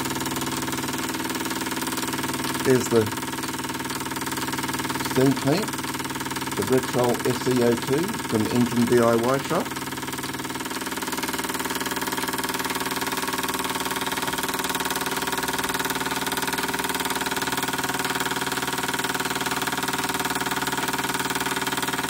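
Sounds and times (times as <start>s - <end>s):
model steam engine running: 0.0s - 22.0s.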